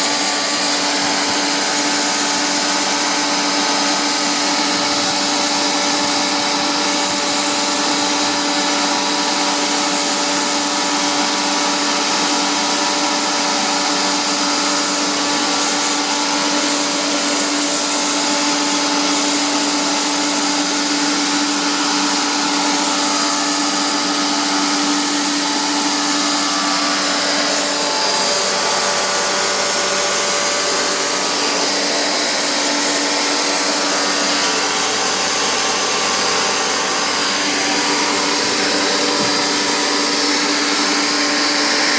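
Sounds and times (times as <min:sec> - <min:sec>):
hiss: 0:00.0 - 0:41.9
small electric motor whining: 0:00.0 - 0:41.9.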